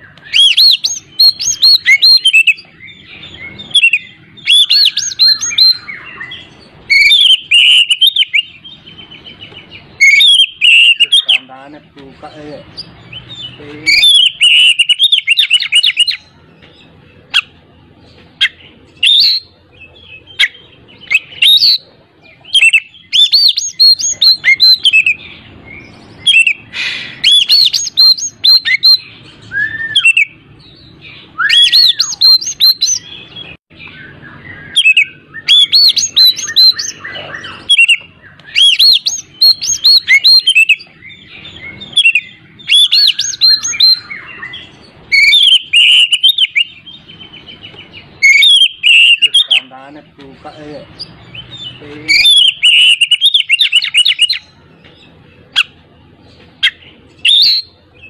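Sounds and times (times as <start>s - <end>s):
bird chirping and whistling: 0.0s - 11.5s, 12.7s - 49.9s, 50.5s - 58.0s.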